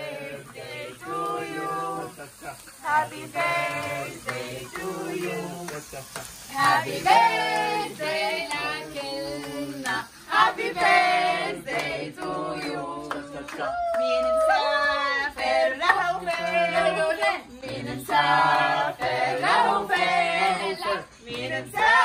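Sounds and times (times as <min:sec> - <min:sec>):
group singing unaccompanied: 0:00.0 - 0:22.0.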